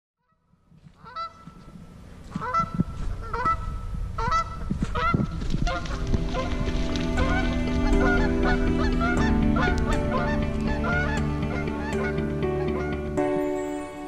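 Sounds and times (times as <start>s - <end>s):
geese honking: 1.0s - 13.7s.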